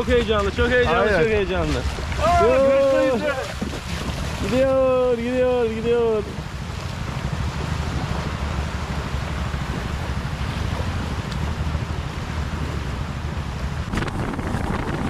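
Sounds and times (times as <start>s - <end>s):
small waves washing: 0.0s - 15.0s
wind buffeting microphone: 0.0s - 15.0s.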